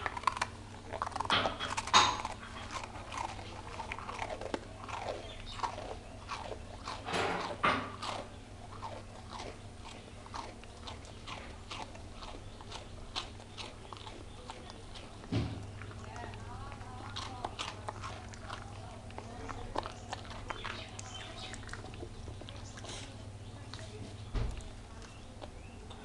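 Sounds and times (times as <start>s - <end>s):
dog crunching a biscuit: 0.0s - 26.0s.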